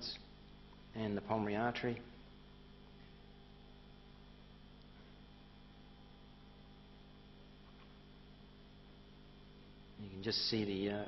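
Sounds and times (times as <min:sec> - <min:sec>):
faint electrical hum and hiss: 0:00.0 - 0:11.0.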